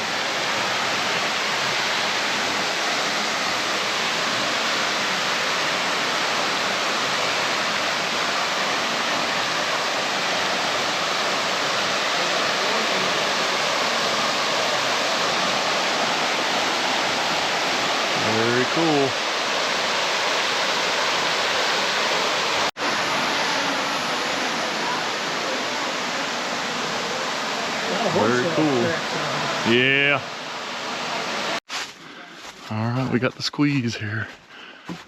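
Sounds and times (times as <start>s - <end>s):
waterfall splashing into pool: 0.0s - 31.6s.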